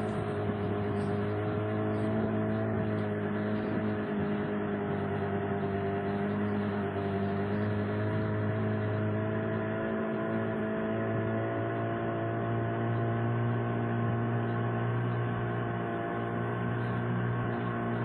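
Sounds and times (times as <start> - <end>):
outboard motor humming: 0.0 - 18.0.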